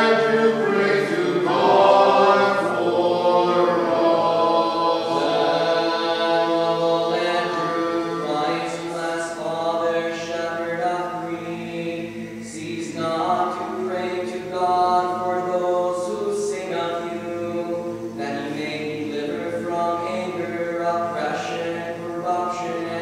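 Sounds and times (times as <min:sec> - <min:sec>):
voices chanting unaccompanied: 0:00.0 - 0:23.0.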